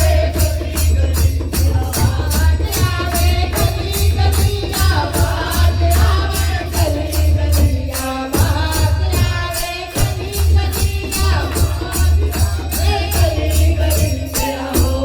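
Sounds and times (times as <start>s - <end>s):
jingling percussion: 0.0s - 15.0s.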